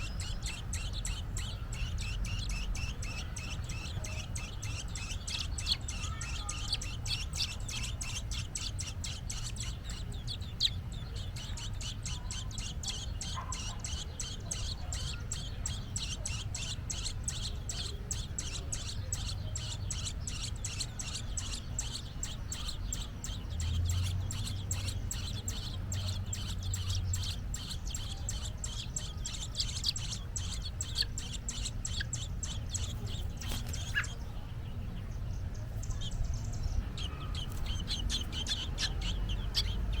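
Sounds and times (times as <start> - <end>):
robin chirping rapidly: 0.0 - 40.0.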